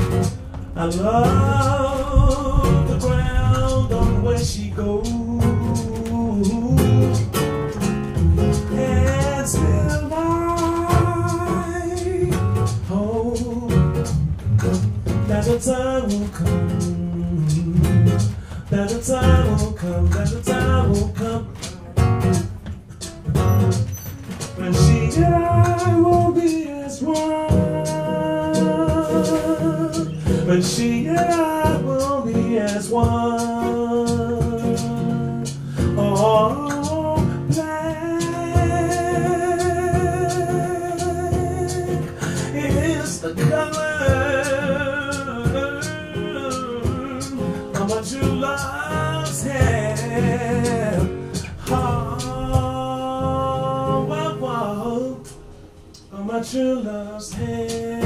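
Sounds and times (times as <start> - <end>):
fingerpicked classical guitar: 0.0 - 58.0
man singing with vibrato: 0.0 - 58.0.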